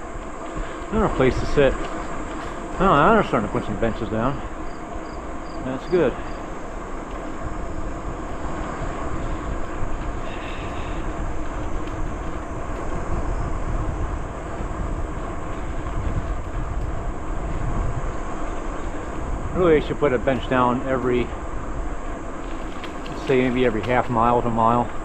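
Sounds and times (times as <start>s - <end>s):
bicycle tyres rolling on path: 0.0s - 25.0s
wind on microphone: 0.0s - 25.0s.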